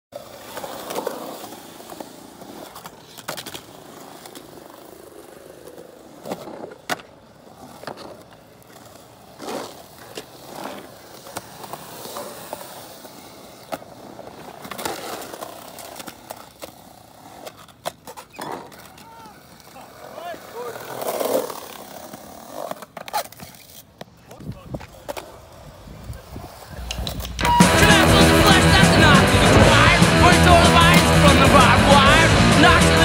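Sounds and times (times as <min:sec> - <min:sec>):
skateboard wheels rolling on concrete: 0:00.1 - 0:33.0
skateboard clacking on ground: 0:00.2 - 0:29.6.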